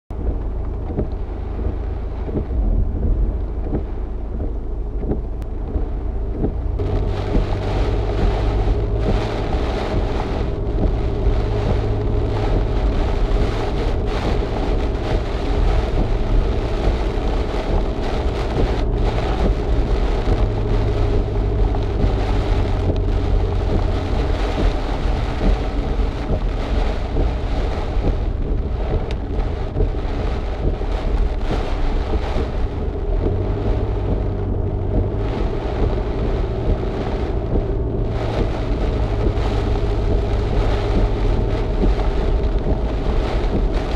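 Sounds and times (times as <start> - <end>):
rain on car body and windscreen: 0.1 - 43.9
road noise: 0.1 - 43.9
wind buffeting: 0.1 - 43.9.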